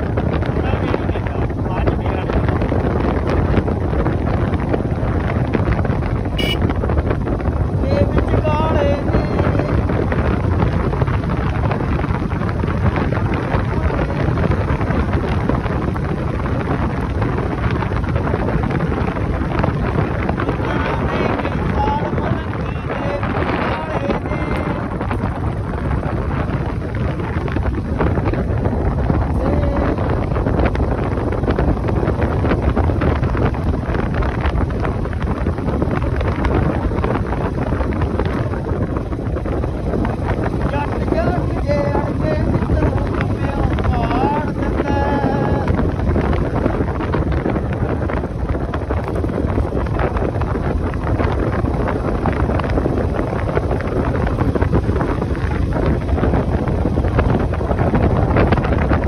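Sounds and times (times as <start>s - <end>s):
motorcycle engine running: 0.0s - 59.0s
road noise: 0.0s - 59.0s
wind buffeting microphone: 0.0s - 59.0s.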